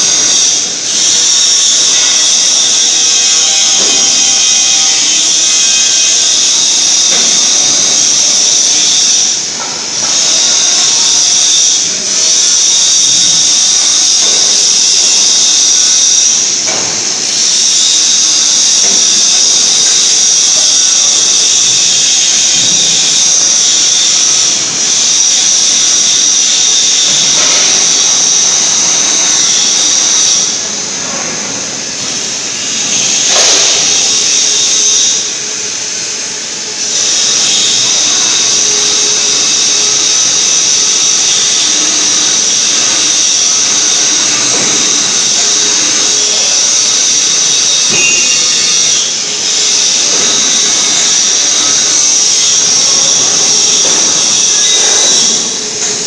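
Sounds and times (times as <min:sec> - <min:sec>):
factory machinery whine and hiss: 0:00.0 - 0:56.0.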